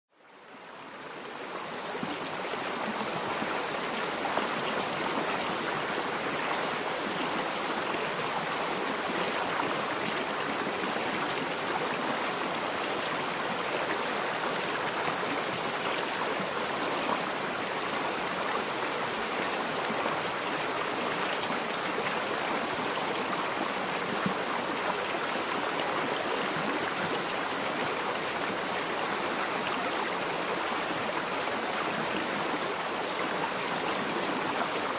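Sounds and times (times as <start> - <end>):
river flowing: 0.2 - 34.9.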